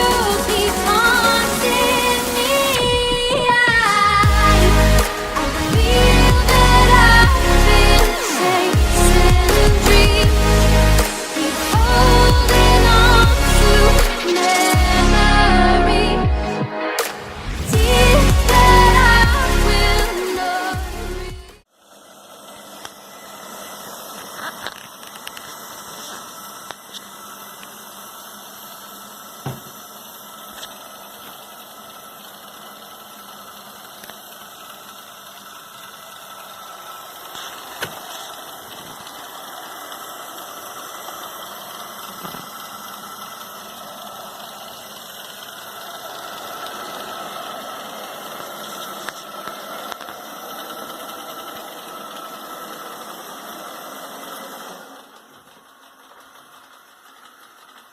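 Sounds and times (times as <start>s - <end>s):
robot vacuum whirring: 0.0s - 15.5s, 21.8s - 57.9s.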